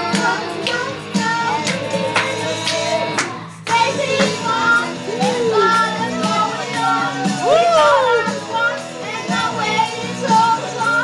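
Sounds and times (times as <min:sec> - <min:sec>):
child singing: 0:00.0 - 0:11.0
karaoke backing track: 0:00.0 - 0:11.0.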